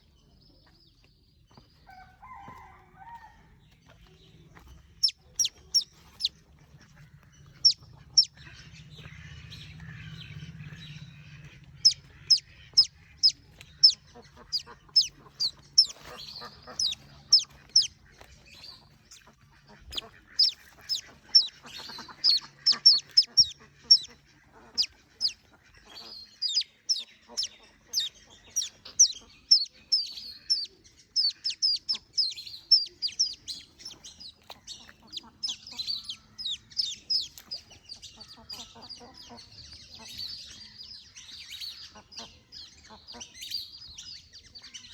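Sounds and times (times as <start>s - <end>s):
baby birds peeping: 3.6s - 44.9s.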